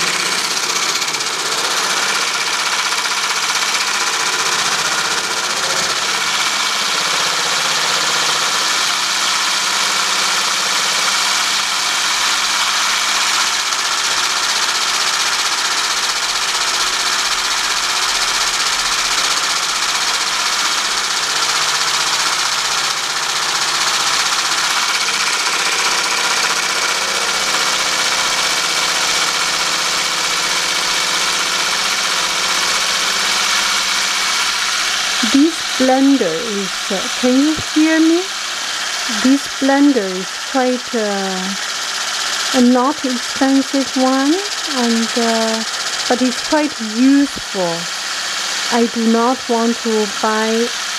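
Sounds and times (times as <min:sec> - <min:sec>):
electric blender motor whine: 0:00.0 - 0:50.9.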